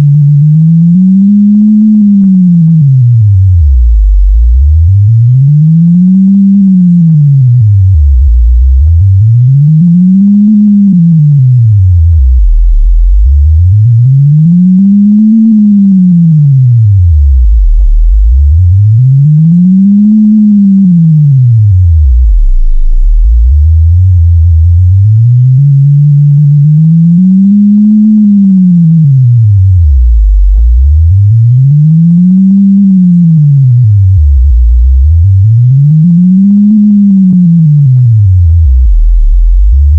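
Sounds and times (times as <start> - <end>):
low sine tone gliding: 0.0 - 39.9.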